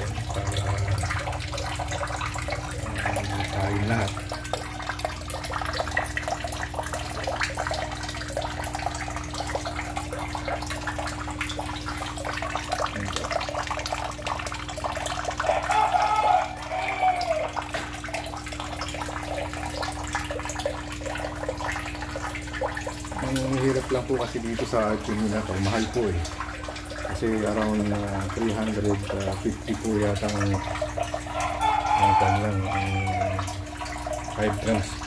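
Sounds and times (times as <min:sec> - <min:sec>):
water running and splashing: 0:00.0 - 0:35.0.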